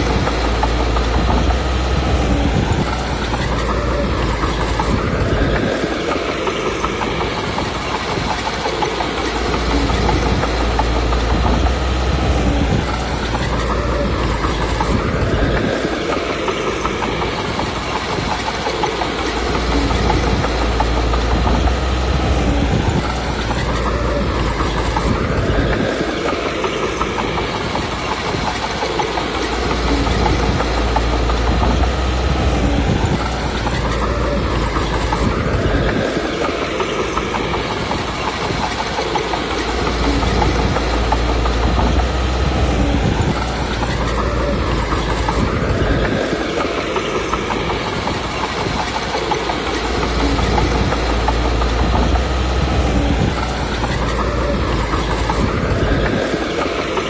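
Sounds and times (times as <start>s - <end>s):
bulldozer diesel engine: 0.0s - 57.0s
steel tracks rumbling: 0.0s - 57.0s.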